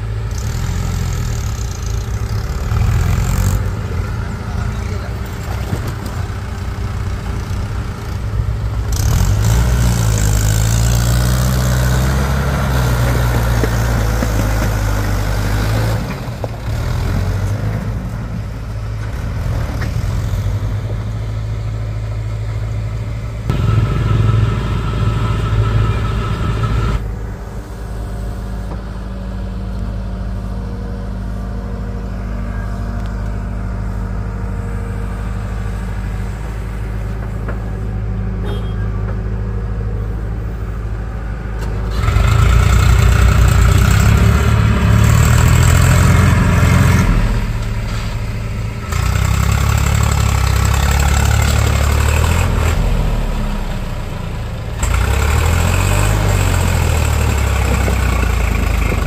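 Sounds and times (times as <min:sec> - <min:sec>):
backhoe diesel engine running: 0:00.0 - 0:59.0
tractor diesel engine pulling trailer: 0:00.0 - 0:59.0.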